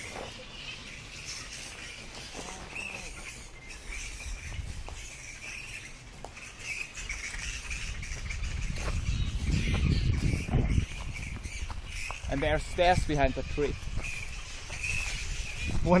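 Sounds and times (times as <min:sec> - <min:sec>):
fruit bats squeaking and screeching: 0:00.0 - 0:16.0.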